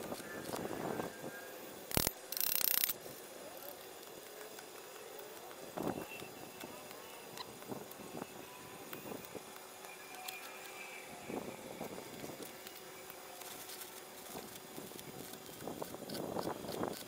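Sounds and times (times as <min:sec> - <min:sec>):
welding arc crackling hiss: 0:01.6 - 0:17.0.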